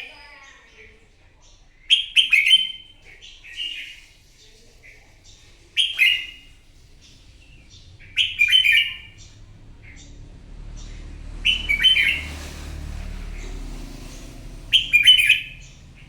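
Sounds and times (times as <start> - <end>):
bulbul singing warbled phrases: 0.0 - 16.0.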